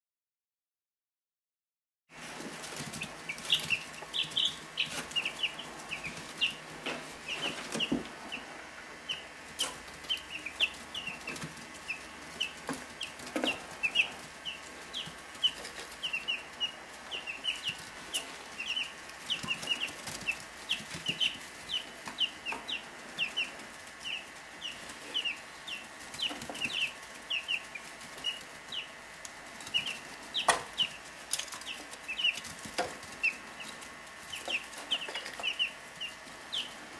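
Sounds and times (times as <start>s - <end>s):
chicks peeping: 2.1s - 36.9s
faint steady hum: 2.1s - 36.9s.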